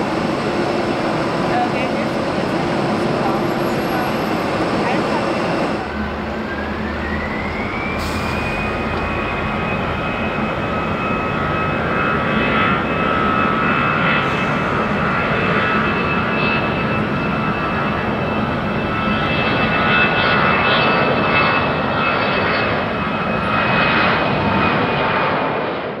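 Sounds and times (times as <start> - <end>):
jet engine roar: 0.0 - 26.0
jet engine whine: 0.0 - 26.0.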